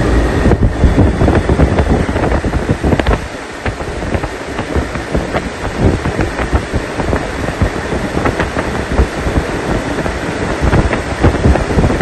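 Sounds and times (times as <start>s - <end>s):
air buffeting microphone: 0.0s - 12.0s
air conditioner fan running: 0.0s - 12.0s.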